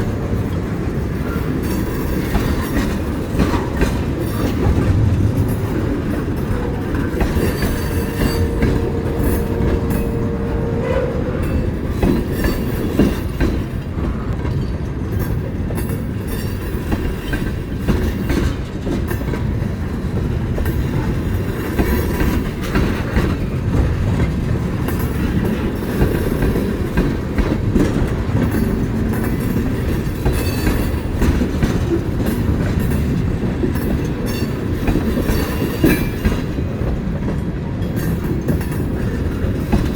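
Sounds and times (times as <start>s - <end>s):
train wheels clicking over rail joints: 0.0s - 10.4s, 11.4s - 39.9s.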